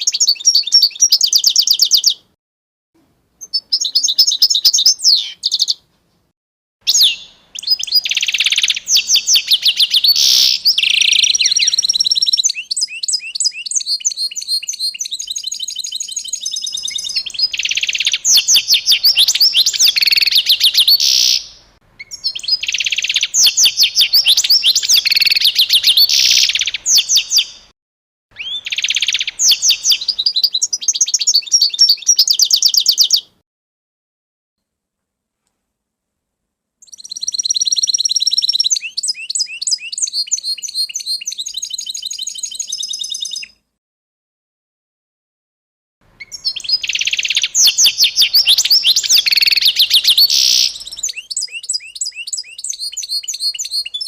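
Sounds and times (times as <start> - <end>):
songbird chirping and trilling: 0.0 - 2.4, 3.4 - 5.9, 6.9 - 27.7, 28.3 - 33.4, 36.8 - 43.6, 46.1 - 54.0.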